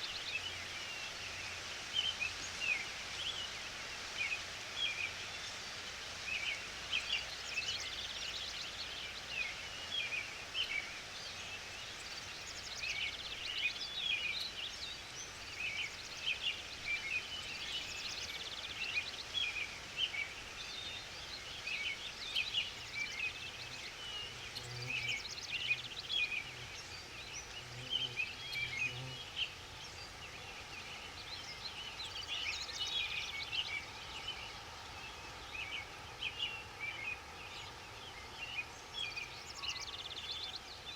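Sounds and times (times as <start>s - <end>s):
forest background hiss: 0.0s - 40.9s
small birds chirping: 0.0s - 40.9s.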